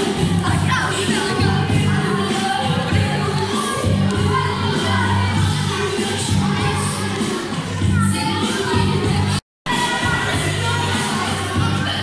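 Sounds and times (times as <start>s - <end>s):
crowd voices: 0.0s - 12.0s
loud pop music with singing: 0.0s - 12.0s.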